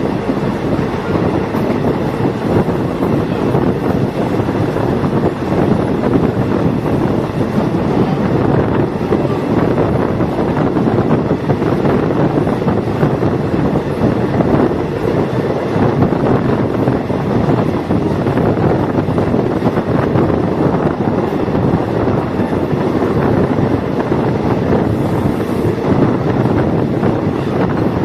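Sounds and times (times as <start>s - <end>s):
train engine and wheels rumbling: 0.0s - 28.0s
wind noise on microphone: 0.0s - 28.0s.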